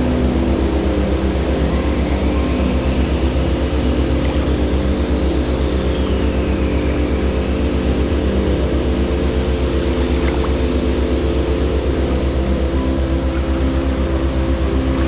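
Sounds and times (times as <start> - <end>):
engine running with low throb: 0.0 - 15.0.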